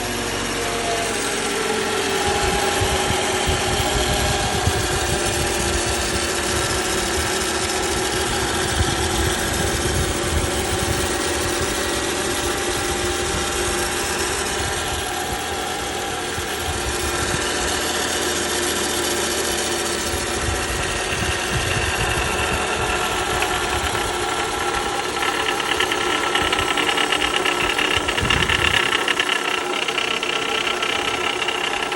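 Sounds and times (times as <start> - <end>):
bright buzz: 0.0 - 31.9
car engine running: 0.0 - 31.9
steady tones over low pulsing: 1.1 - 31.9.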